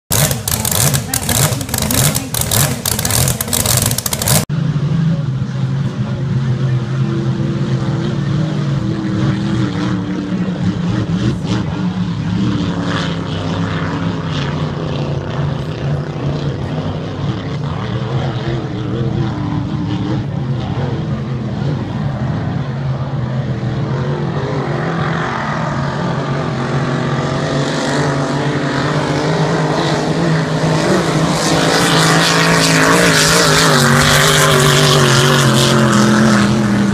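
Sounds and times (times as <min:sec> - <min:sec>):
powerboat engine drone: 0:00.1 - 0:36.9.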